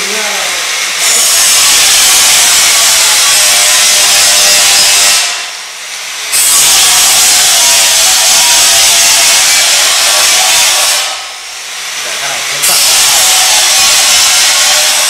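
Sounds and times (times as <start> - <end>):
power cutting tool: 0.0 - 15.0.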